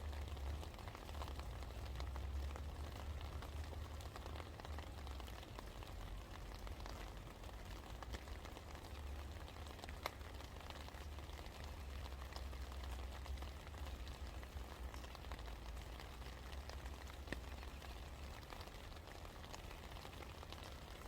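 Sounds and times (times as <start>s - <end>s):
rain drops ticking on a surface: 0.0s - 21.0s.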